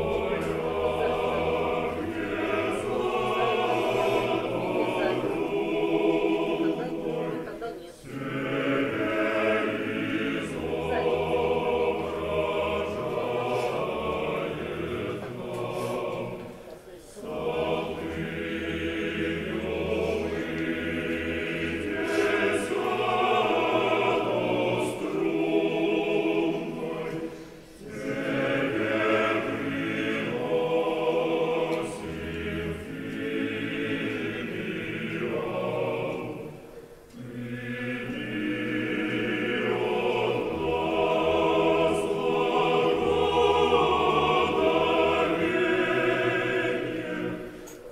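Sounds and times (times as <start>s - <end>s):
church choir singing chant: 0.0s - 47.9s.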